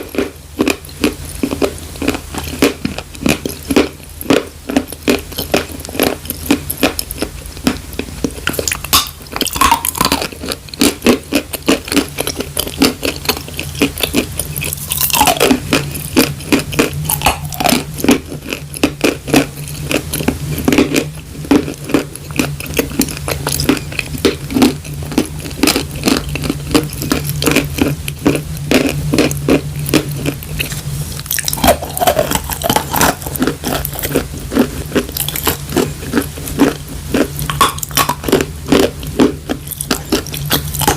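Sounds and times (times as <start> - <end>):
chewing dry chalk crunches: 0.0 - 40.9.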